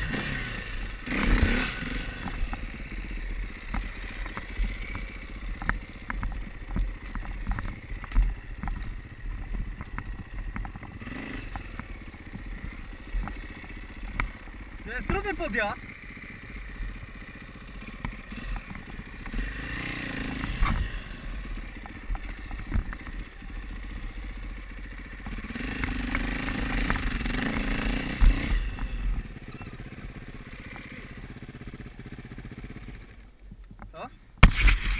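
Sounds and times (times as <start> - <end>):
motorcycle engine revving: 0.0 - 33.8, 34.4 - 34.9.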